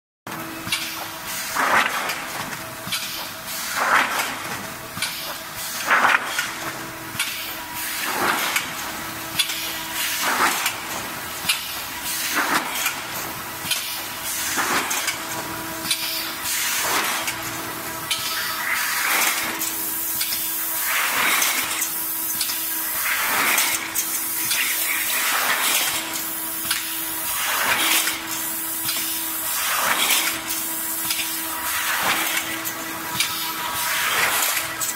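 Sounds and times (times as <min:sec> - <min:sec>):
machine clicks and clatter: 0:00.3 - 0:34.9.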